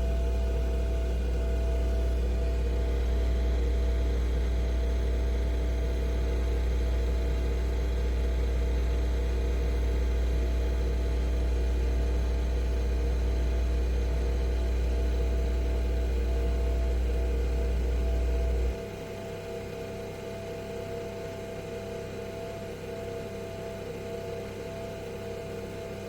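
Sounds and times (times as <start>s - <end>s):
coffee machine motor humming: 0.0s - 21.7s.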